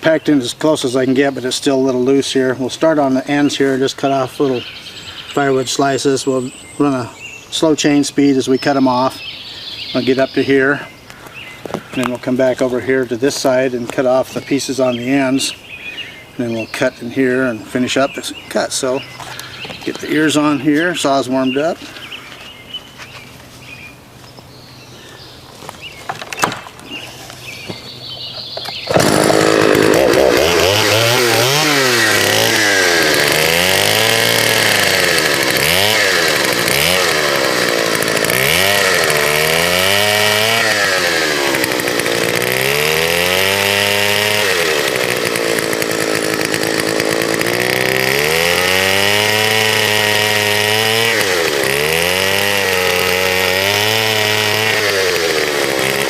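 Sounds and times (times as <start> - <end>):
chainsaw revving and cutting wood: 0.0 - 22.8, 25.0 - 56.0.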